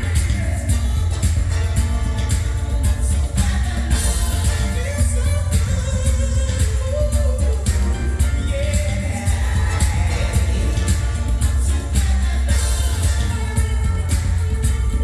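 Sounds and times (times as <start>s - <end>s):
pop song over loudspeakers: 0.0s - 15.0s.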